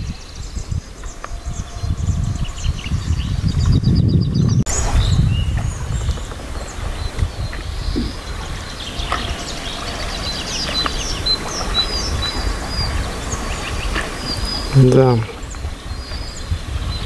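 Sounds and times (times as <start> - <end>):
low rumble: 0.0 - 17.0
songbirds chirping and trilling: 0.0 - 17.0.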